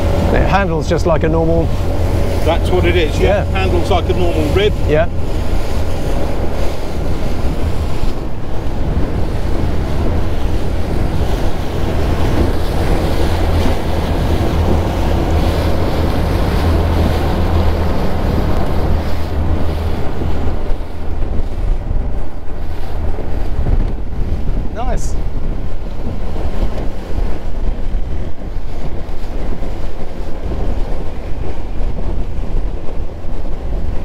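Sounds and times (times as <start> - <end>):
water splashing along boat hull: 0.0 - 34.0
wind buffeting microphone: 0.0 - 34.0.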